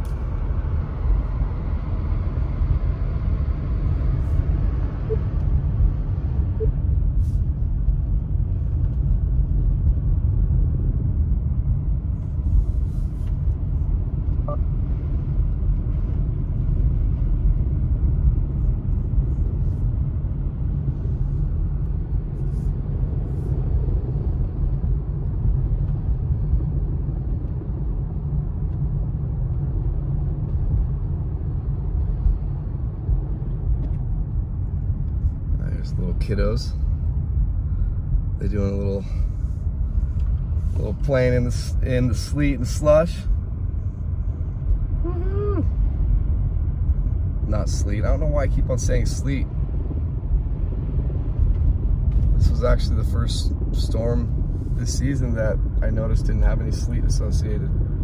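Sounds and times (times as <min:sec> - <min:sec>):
engine and tyre rumble: 0:00.0 - 0:58.0.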